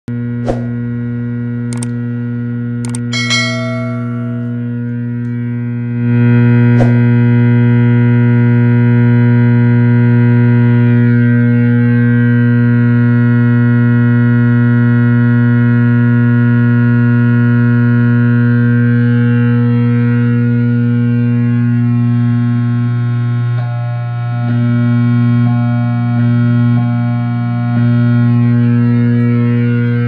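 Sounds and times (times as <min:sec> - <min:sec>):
guitar amplifier electrical buzz: 0:00.1 - 0:30.0.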